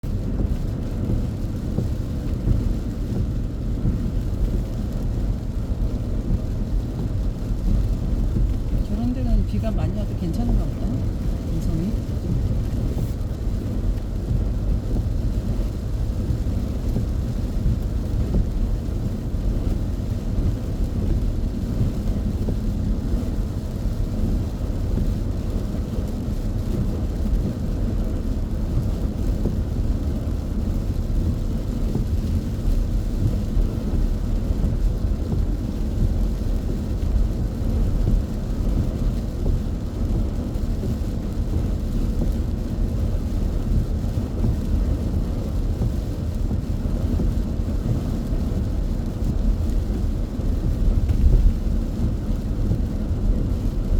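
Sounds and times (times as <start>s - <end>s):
car engine running: 0.0s - 53.9s
tyres on wet road: 0.0s - 53.9s.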